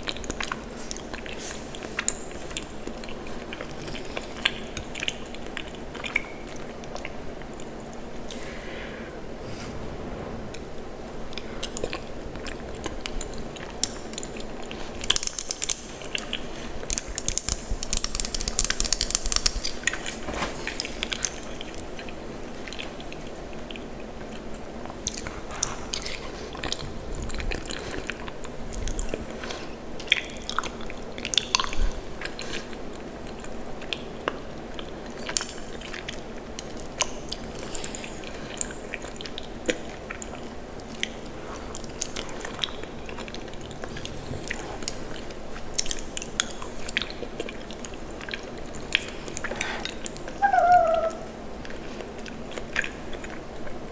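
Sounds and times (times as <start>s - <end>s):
wet chewing and mouth clicks: 0.0s - 8.8s, 11.4s - 20.2s, 20.8s - 53.9s.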